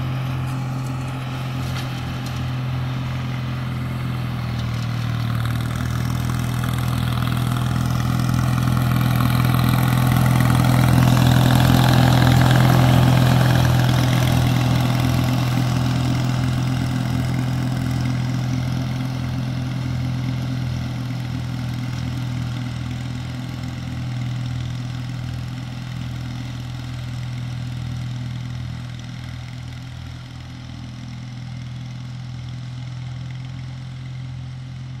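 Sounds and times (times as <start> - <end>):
garden tractor engine mowing: 0.0 - 35.0.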